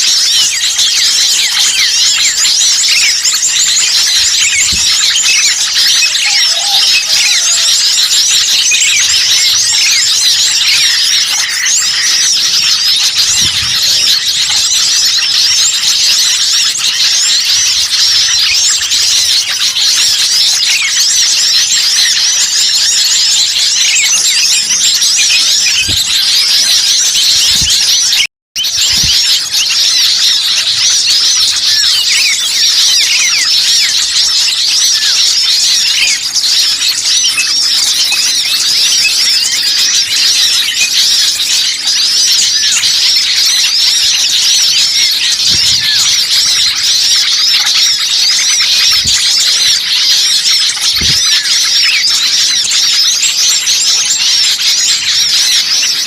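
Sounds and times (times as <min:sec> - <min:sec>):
songbirds chirping and calling: 0:00.0 - 0:56.0.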